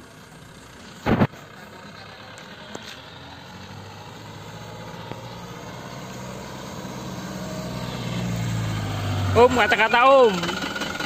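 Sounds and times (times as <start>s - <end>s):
diesel truck engine approaching: 0.0s - 11.0s.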